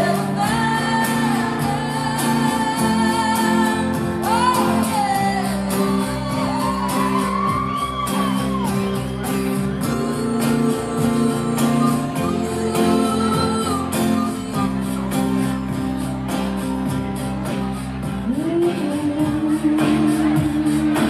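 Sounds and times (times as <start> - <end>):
lead guitar with bent notes: 0.0 - 21.0.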